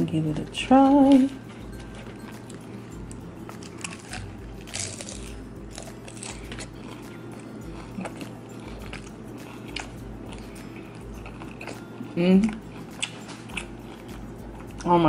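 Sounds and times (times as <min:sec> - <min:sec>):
person chewing crunchy food: 0:01.1 - 0:14.9.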